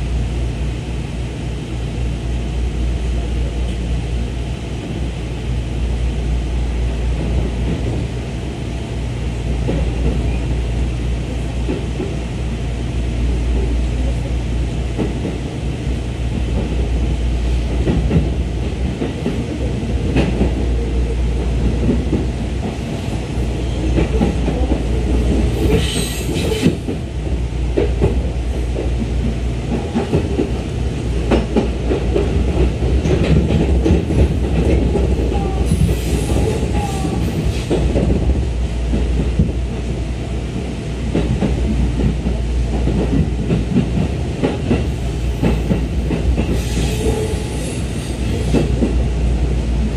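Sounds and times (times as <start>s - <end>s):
train running rumble: 0.0s - 49.9s.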